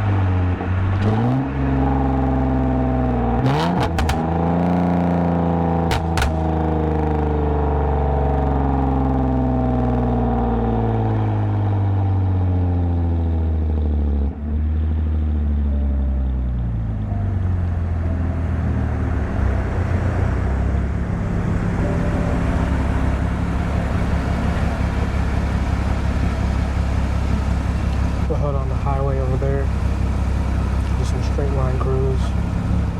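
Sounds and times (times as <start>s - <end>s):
car exhaust drone: 0.0s - 32.9s.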